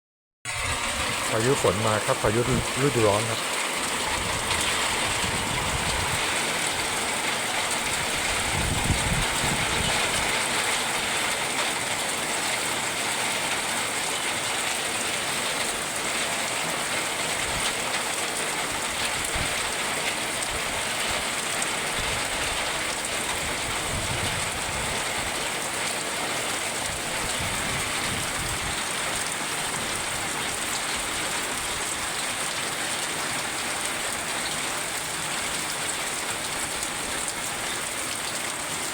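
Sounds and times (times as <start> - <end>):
heavy rain pouring: 0.5 - 38.9.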